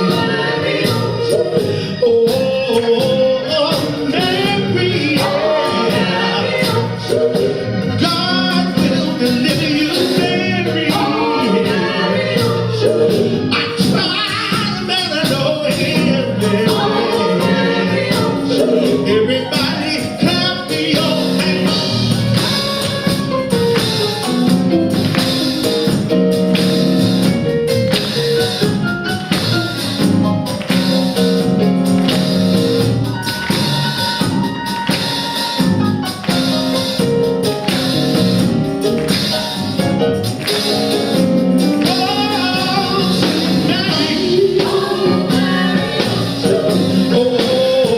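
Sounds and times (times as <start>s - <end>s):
gospel choir singing: 0.0s - 47.9s
instrumental accompaniment: 0.0s - 47.9s
percussion beat: 0.0s - 47.9s.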